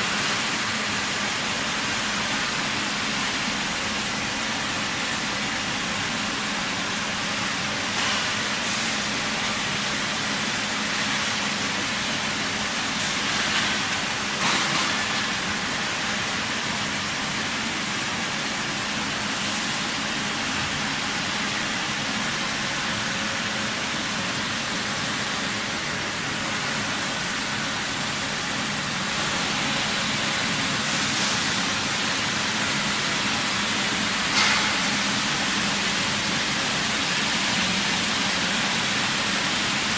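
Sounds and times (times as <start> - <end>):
welding machinery hiss and hum: 0.0 - 39.9.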